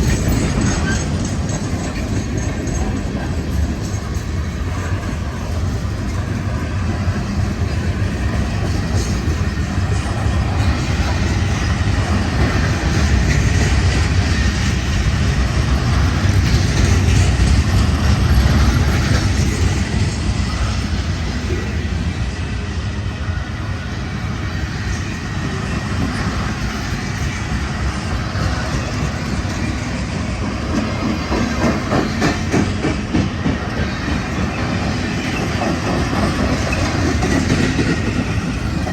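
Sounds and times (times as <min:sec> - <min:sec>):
train wheels rumbling on rails: 0:00.0 - 0:38.9
wheels clickety-clack over rail joints: 0:00.0 - 0:38.9.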